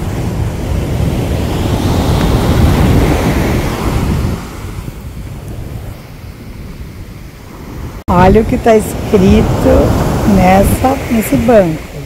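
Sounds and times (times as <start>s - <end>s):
wave breaking and washing in: 0.0s - 12.0s
wind rumbling on microphone: 0.0s - 12.0s.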